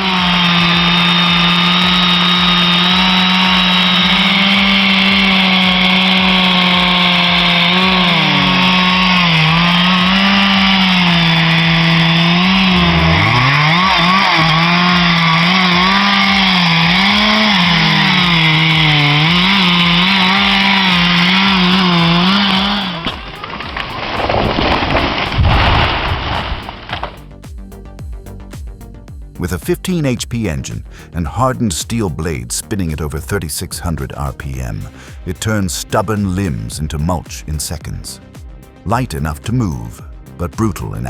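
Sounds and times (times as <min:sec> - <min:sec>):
chainsaw cutting wood: 0:00.0 - 0:27.3, 0:34.0 - 0:40.9.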